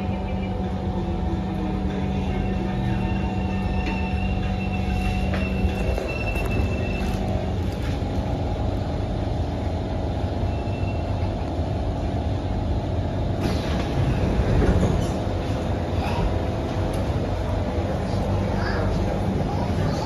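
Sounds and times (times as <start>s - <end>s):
train running gear rumble: 0.0s - 20.0s.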